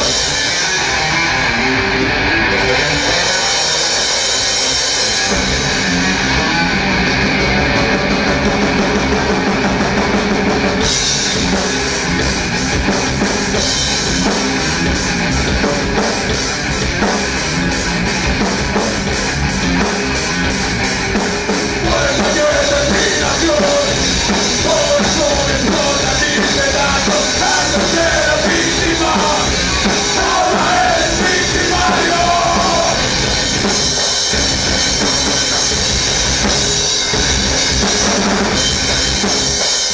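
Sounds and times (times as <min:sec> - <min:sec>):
metal band playing live: 0:00.0 - 0:39.9.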